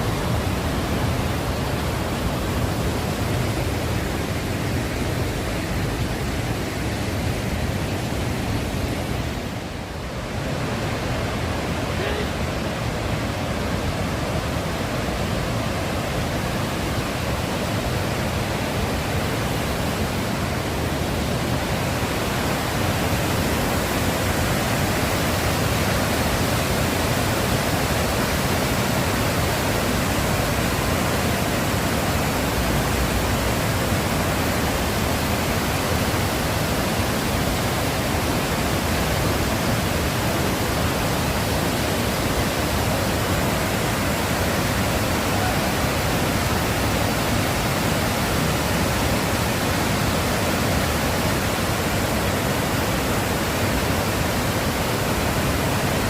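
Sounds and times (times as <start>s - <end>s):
waterfall roar: 0.0s - 56.0s.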